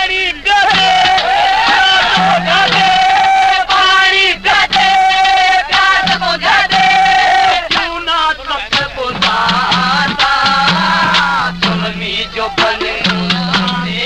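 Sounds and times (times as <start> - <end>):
man singing: 0.0 - 14.0
instrumental accompaniment: 0.7 - 14.0.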